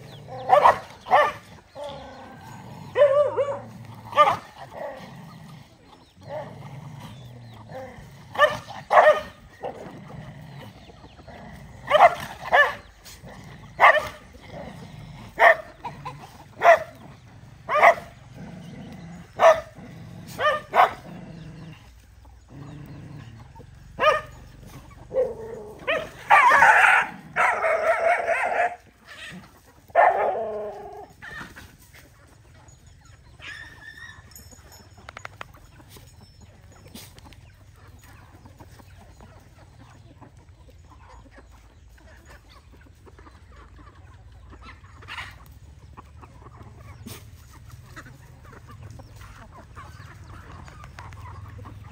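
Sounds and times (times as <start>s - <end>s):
dogs barking and yelping: 0.0s - 51.9s.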